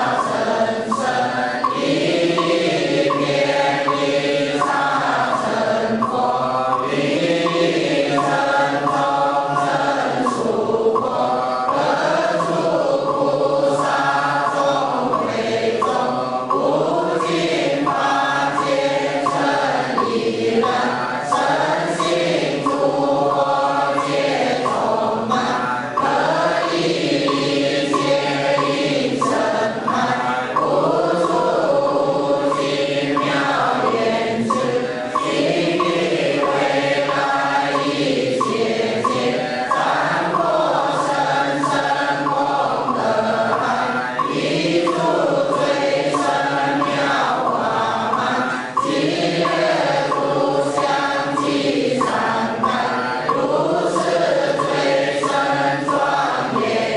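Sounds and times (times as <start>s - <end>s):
group chanting: 0.0s - 56.9s.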